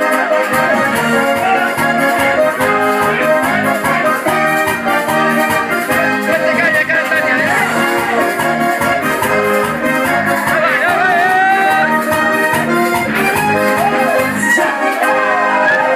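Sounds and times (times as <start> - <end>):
accordion playing a dance tune: 0.0 - 15.9.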